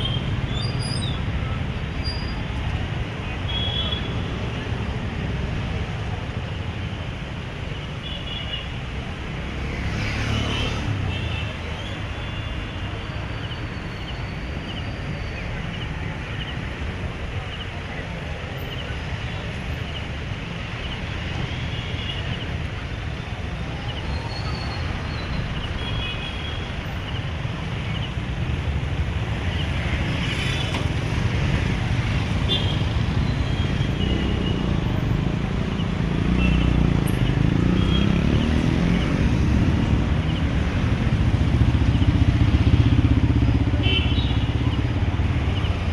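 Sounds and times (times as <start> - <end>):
traffic noise: 0.0 - 45.9.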